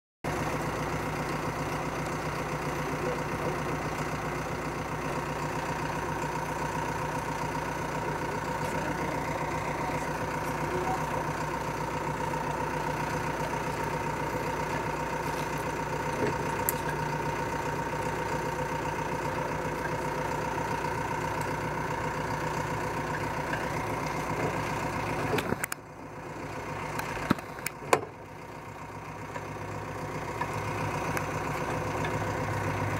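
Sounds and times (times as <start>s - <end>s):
diesel engine idling: 0.2s - 32.9s.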